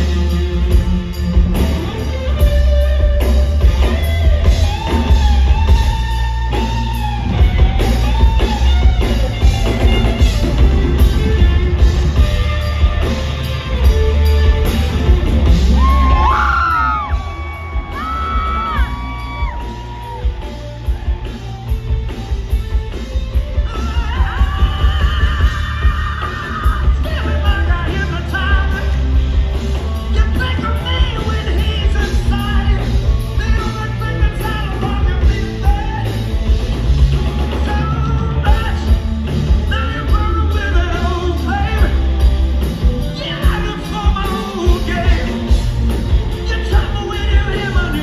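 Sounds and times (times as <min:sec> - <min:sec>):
bass: 0:00.0 - 0:48.0
drums: 0:00.0 - 0:48.0
electric guitar lead line: 0:00.0 - 0:48.0.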